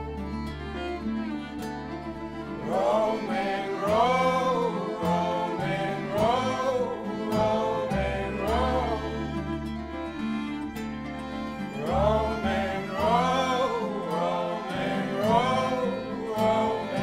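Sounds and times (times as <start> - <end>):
acoustic folk band playing: 0.0 - 17.0.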